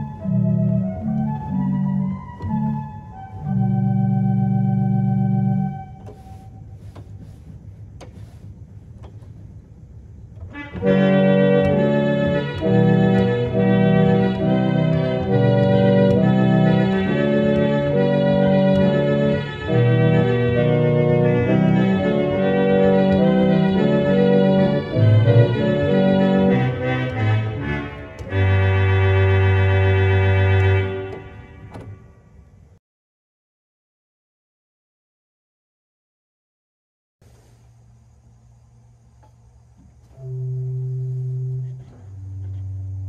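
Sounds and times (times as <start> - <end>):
pipe organ reed chords: 0.0 - 32.8, 38.2 - 43.0.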